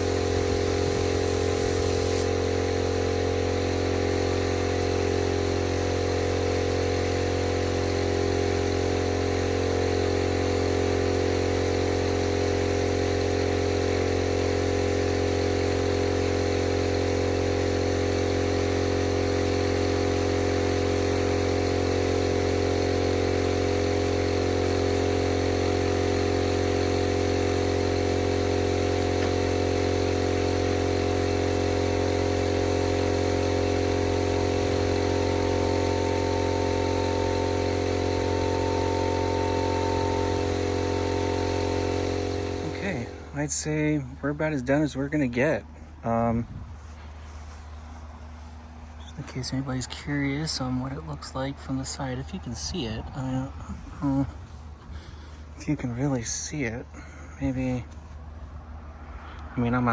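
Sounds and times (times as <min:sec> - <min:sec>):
air compressor running: 0:00.0 - 0:59.9.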